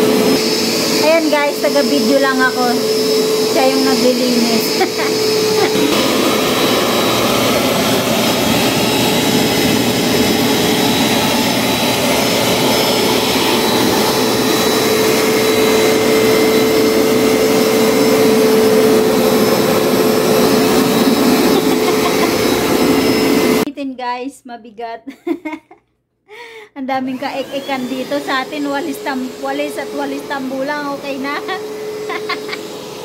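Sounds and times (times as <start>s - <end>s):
carpet cleaner motor whine: 0.0s - 23.7s, 27.1s - 33.0s.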